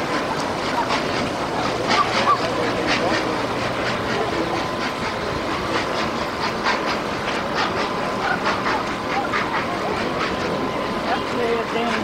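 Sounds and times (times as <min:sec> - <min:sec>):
faint crowd voices: 0:00.0 - 0:12.0
steam locomotive exhaust beats: 0:00.0 - 0:12.0.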